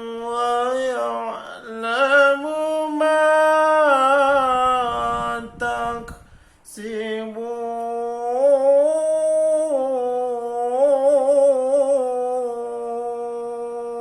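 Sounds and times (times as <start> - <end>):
person chanting slowly: 0.0 - 14.0.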